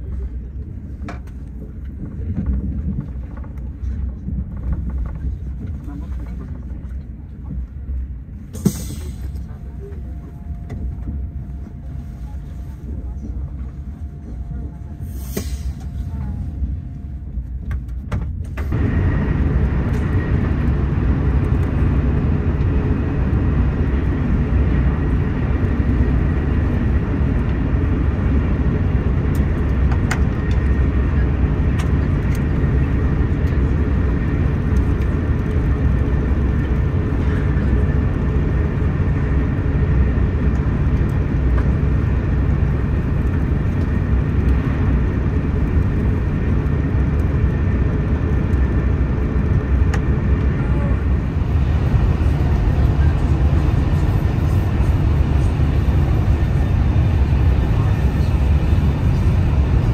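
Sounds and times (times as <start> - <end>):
train rumble inside cabin: 0.0 - 59.9.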